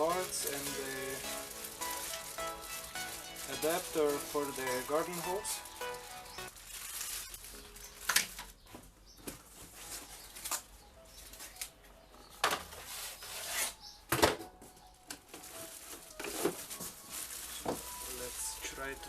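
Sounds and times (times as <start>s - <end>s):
plastic packaging rustling: 0.0s - 11.7s, 15.2s - 19.0s.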